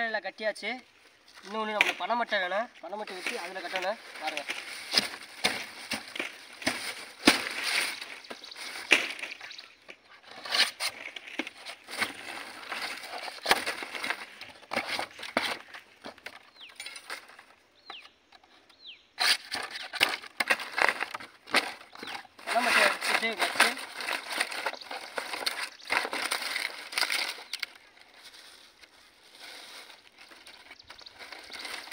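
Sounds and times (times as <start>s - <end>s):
stiff leaf rustling and crackling: 0.0s - 17.6s, 19.2s - 31.9s.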